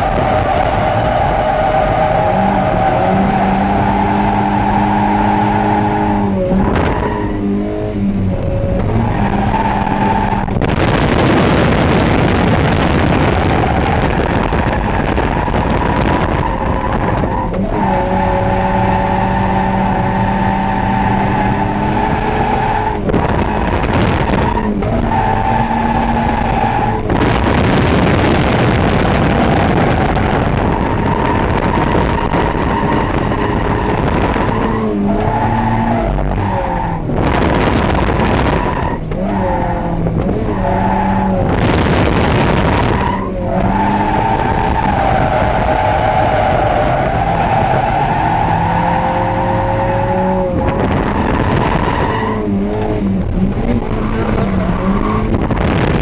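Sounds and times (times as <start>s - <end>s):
car engine at high revs: 0.0s - 56.0s
tyres skidding: 0.0s - 56.0s.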